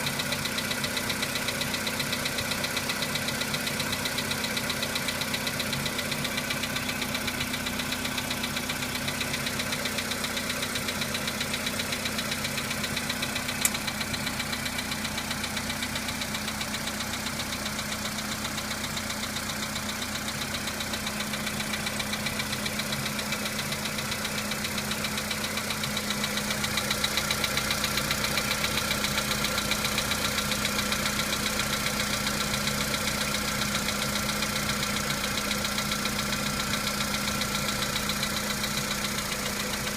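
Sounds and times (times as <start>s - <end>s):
car engine idling with knock: 0.0s - 39.9s.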